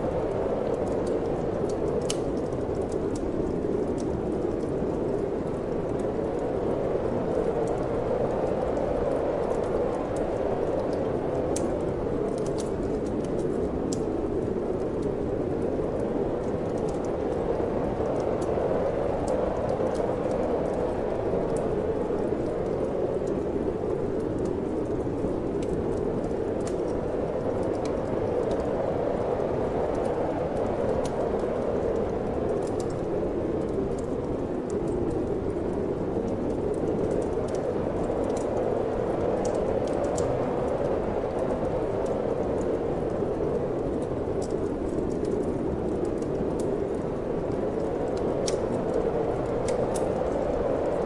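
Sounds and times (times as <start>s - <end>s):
wind blowing: 0.0s - 51.0s
wood fire crackling: 0.0s - 51.0s.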